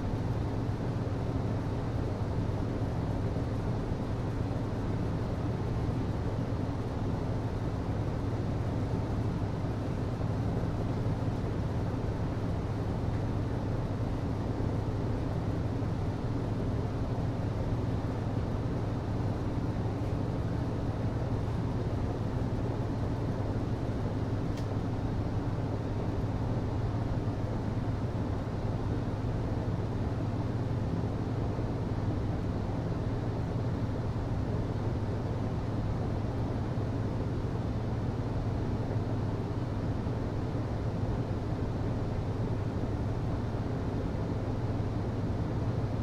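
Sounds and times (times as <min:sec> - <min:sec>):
hvac low hum: 0:00.0 - 0:46.0.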